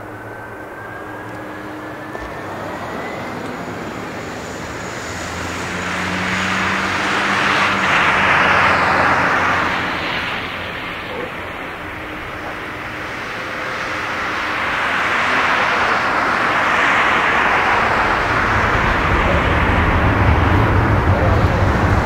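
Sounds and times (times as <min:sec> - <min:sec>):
jet airliner passing: 0:00.0 - 0:22.0.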